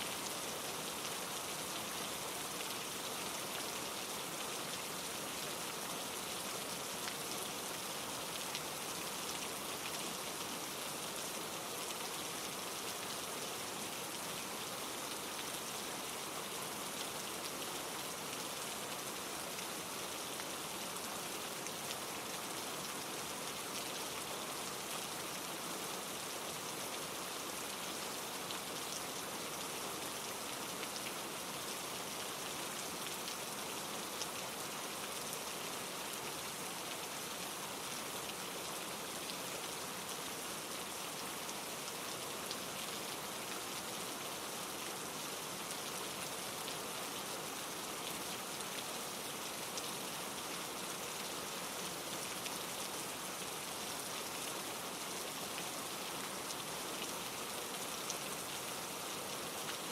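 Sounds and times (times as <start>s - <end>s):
steady rain falling: 0.0s - 59.9s
stream rushing over rocks: 0.0s - 59.9s.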